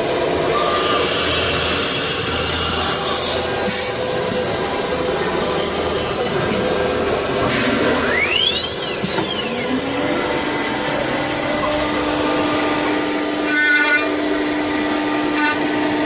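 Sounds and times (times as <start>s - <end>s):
loud machine noise: 0.0s - 16.0s.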